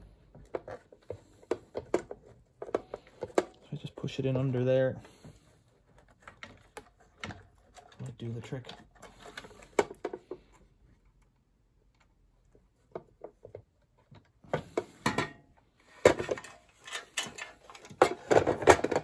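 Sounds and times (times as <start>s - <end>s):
small clicks and knocks of handling: 0.0s - 19.0s.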